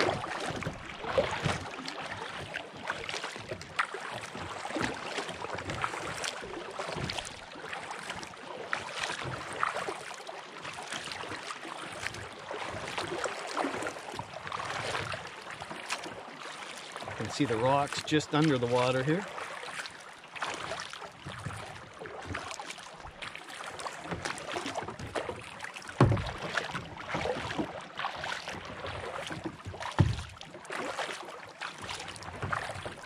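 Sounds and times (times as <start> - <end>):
water lapping against kayak hull: 0.0 - 33.0.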